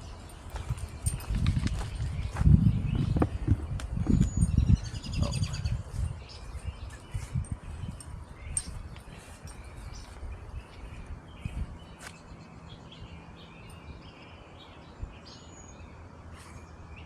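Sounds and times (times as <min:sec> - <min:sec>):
wind rumbling on microphone: 0:00.0 - 0:15.4
small birds chirping: 0:00.0 - 0:17.0.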